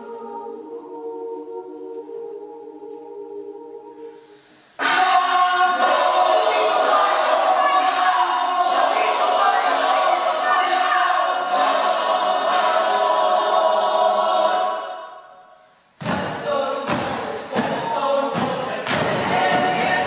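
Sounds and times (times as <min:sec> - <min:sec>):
youth choir singing: 0:00.0 - 0:20.0.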